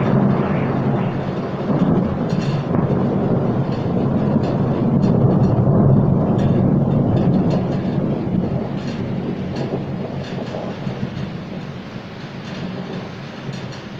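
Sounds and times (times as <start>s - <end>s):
rolling thunder: 0.0s - 13.9s.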